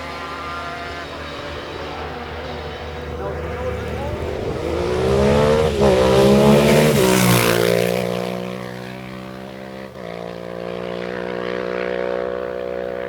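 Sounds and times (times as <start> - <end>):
motorcycle passing at high revs: 0.0 - 13.0
steady engine note: 0.0 - 13.0.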